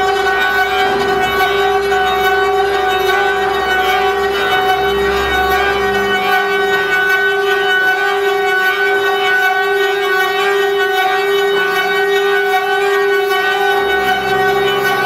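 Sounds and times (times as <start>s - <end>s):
machine spindles whining: 0.0s - 15.0s
machining noise: 0.0s - 15.0s.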